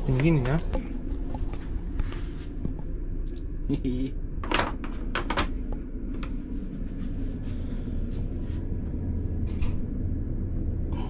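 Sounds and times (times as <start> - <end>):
ship engine rumble and hum: 0.0 - 11.0.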